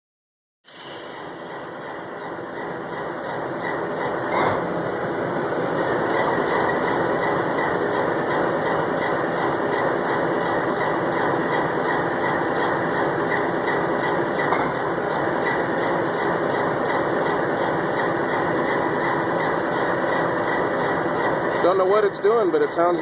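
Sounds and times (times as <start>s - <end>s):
diesel locomotive engine idling: 0.7s - 23.0s.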